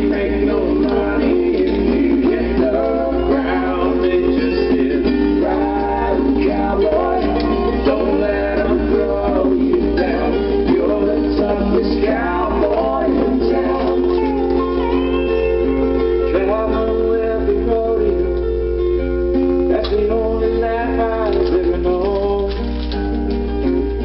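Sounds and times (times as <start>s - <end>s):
man singing: 0.0s - 18.7s, 19.5s - 23.0s
guitar: 0.0s - 24.0s.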